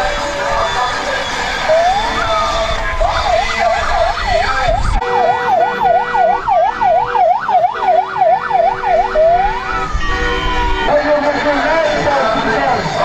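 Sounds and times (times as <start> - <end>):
siren yelping: 0.0 - 13.0.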